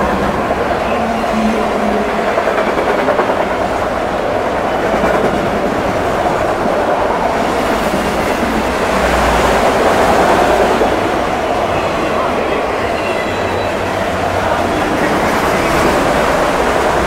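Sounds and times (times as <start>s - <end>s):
steel wheels rushing on rail: 0.0s - 17.0s.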